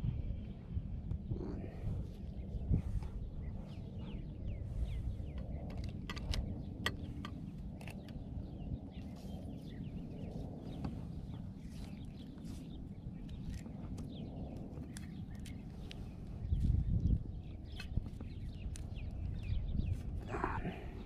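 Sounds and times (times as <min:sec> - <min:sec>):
low steady rumble: 0:00.0 - 0:21.0
birds chirping: 0:00.1 - 0:21.0.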